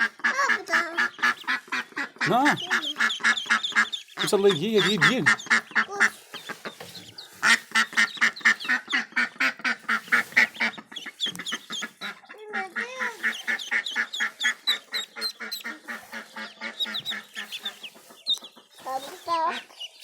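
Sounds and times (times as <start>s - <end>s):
ducklings peeping: 0.0s - 20.0s
ducks quacking: 0.0s - 20.0s.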